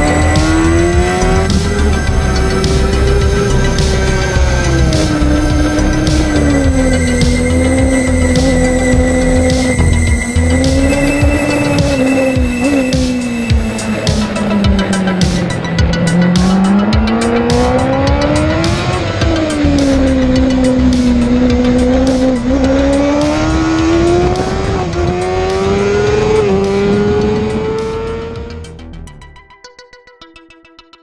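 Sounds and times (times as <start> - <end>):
motorcycle engine revving: 0.0 - 29.2.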